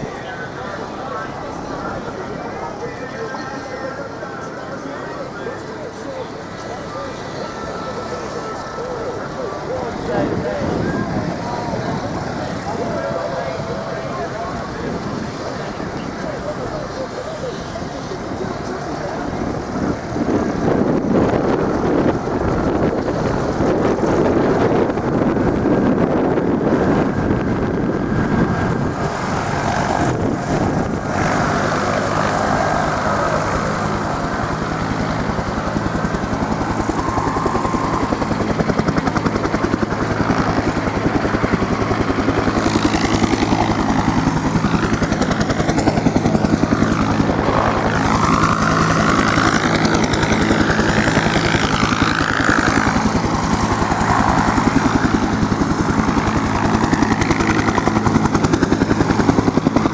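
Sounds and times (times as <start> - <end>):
aircraft engine drone: 0.0 - 59.9.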